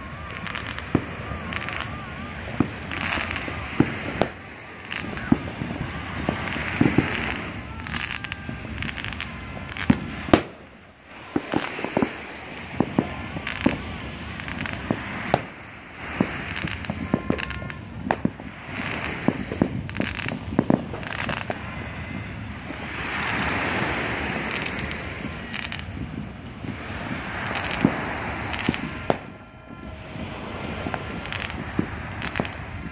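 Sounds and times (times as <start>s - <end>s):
fireworks bangs and crackling pops: 0.0s - 32.9s.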